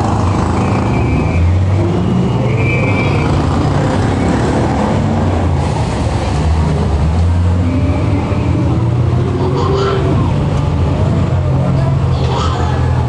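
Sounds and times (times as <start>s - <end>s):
bus engine humming: 0.0s - 13.0s
road and cabin noise: 0.0s - 13.0s.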